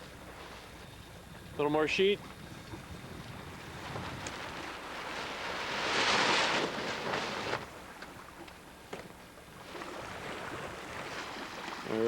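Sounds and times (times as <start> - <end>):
sea wash against boat: 0.0 - 12.0.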